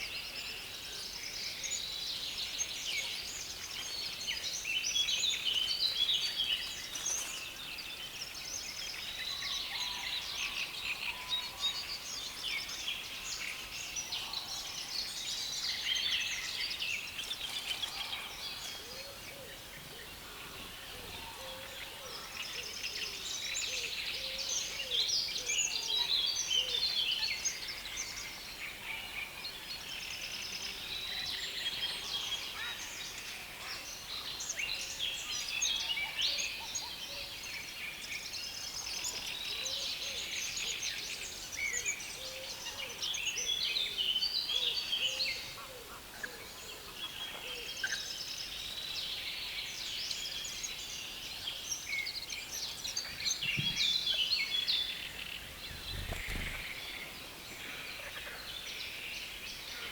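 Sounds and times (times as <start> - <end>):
songbirds chorus: 0.0 - 59.9.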